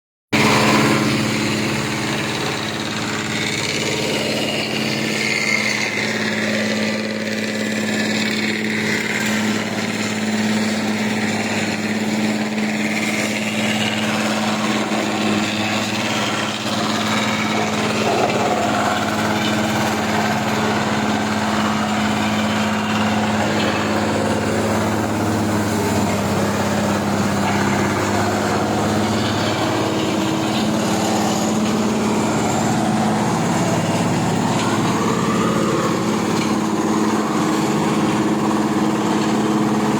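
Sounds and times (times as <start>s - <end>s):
wood chipper humming: 0.3s - 39.9s.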